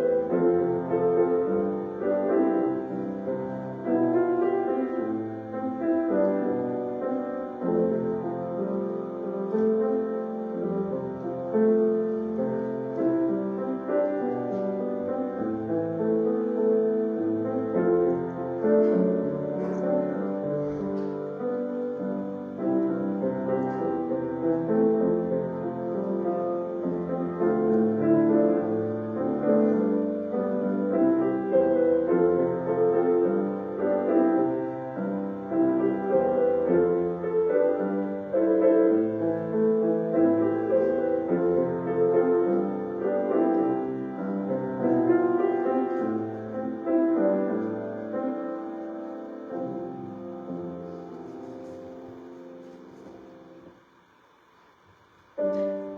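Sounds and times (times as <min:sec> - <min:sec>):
slow piano chords: 0:00.0 - 0:55.9.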